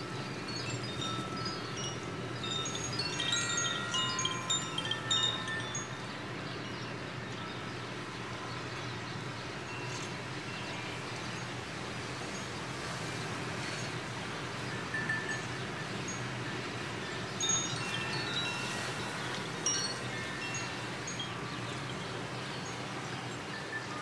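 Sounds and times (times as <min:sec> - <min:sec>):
wind chimes tinkling: 0:00.0 - 0:12.6, 0:13.6 - 0:24.0.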